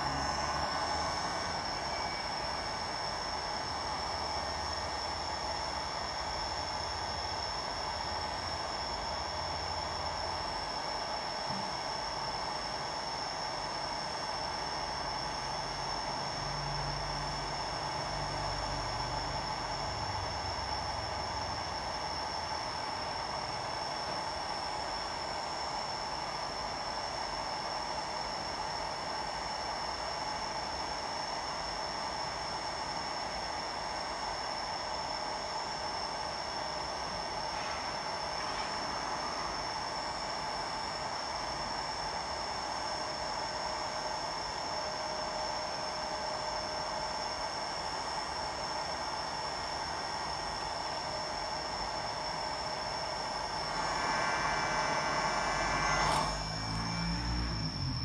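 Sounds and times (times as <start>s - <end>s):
fan whir: 0.0s - 58.0s
hot air blower hissing: 0.0s - 58.0s
thin high whine: 0.0s - 58.0s.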